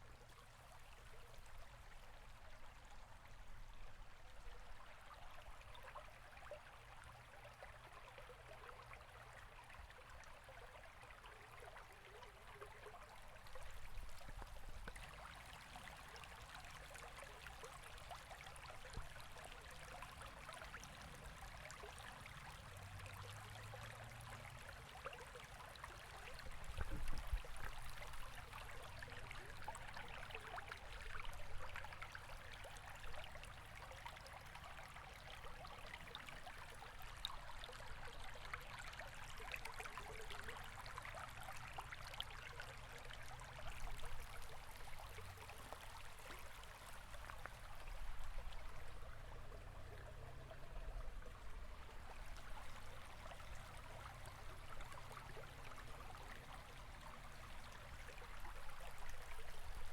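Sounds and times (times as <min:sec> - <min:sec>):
river water flowing and burbling: 0:00.0 - 0:59.9.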